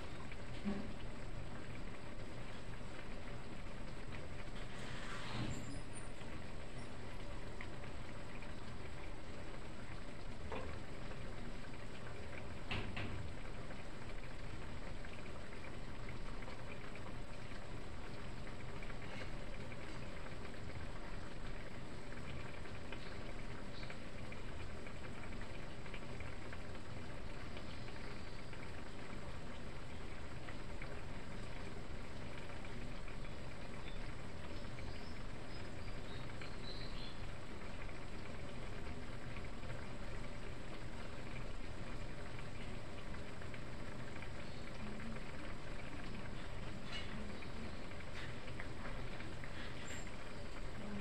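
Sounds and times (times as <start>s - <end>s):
broth simmering in a frying pan: 0.0s - 51.0s.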